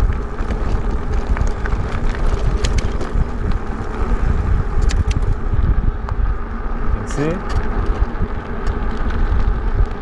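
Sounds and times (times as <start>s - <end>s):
bike rattling on rough road: 0.0s - 10.0s
wind buffeting microphone: 0.0s - 10.0s.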